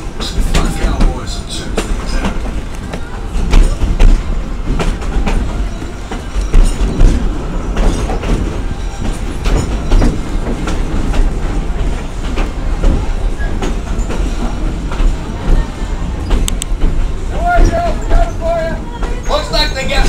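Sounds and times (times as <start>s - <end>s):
train wheels rumbling: 0.0s - 20.0s
wheels clacking over rail joints: 0.0s - 20.0s.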